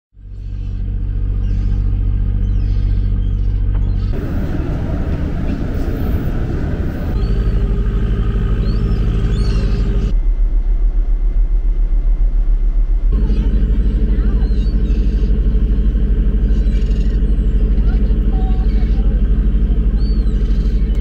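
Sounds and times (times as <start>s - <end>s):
ship engine deep hum: 0.2s - 21.0s
gull cries: 0.3s - 10.1s, 13.2s - 21.0s.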